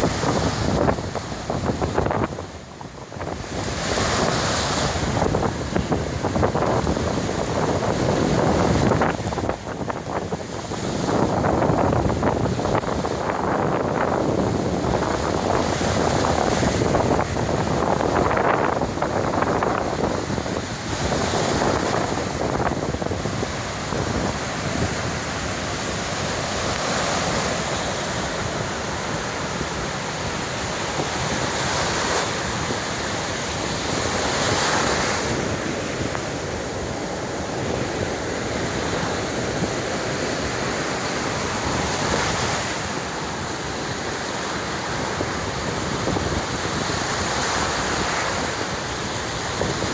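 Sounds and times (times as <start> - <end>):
waves breaking on beach: 0.0 - 49.9
wind rumbling on microphone: 0.0 - 49.9.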